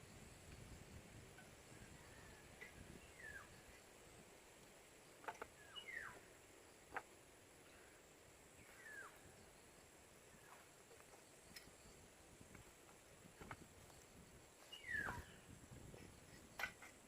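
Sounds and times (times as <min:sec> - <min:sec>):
faint birdsong: 0:00.0 - 0:17.0.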